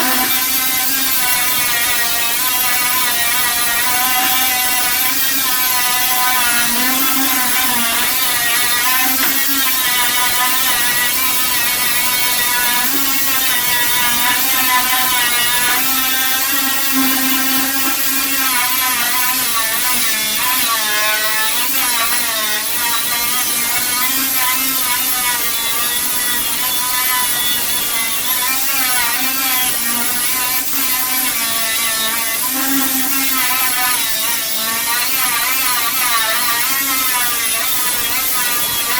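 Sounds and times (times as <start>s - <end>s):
air sander whining: 0.0s - 38.9s.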